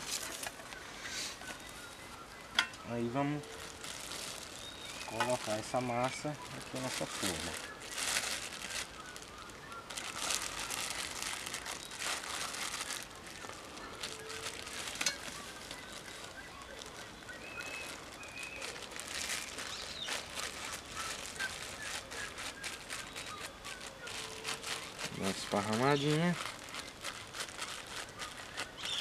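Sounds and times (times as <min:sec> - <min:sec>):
plastic bag crinkling: 0:00.0 - 0:00.8, 0:02.8 - 0:29.0.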